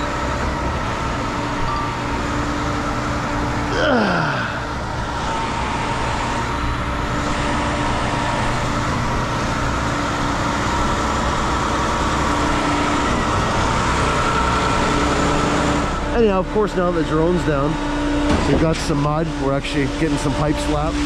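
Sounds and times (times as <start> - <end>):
drone propellers winding down: 0.0 - 21.0
truck engine running: 0.0 - 21.0.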